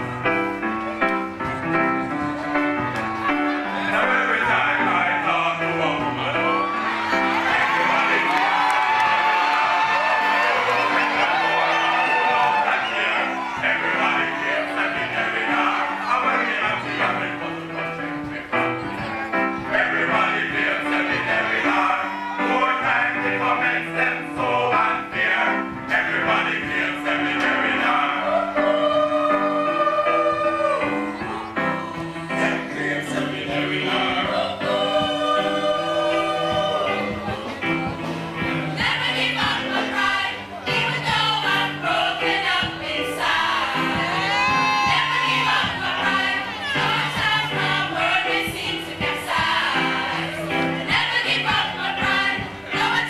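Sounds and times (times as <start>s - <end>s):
voices singing together: 1.8s - 53.0s.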